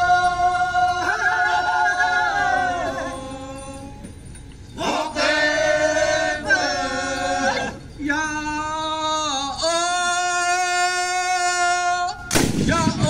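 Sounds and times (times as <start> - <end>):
men chanting in unison: 0.0 - 4.0, 4.8 - 13.0.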